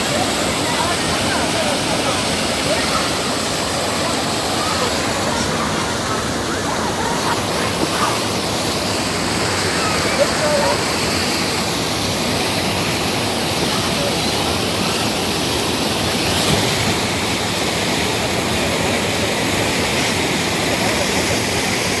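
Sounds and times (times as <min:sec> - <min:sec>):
stream water rushing over weir: 0:00.0 - 0:22.0.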